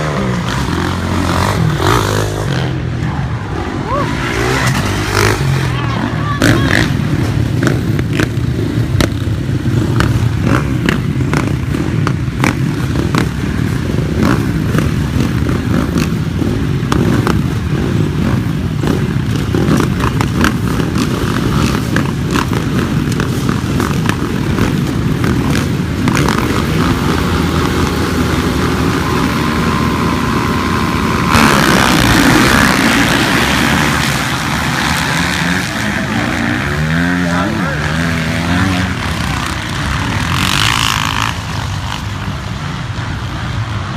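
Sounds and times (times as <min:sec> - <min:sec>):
dirt bike engine running hard: 0:00.0 - 0:43.9
loud rushing noise: 0:00.0 - 0:43.9.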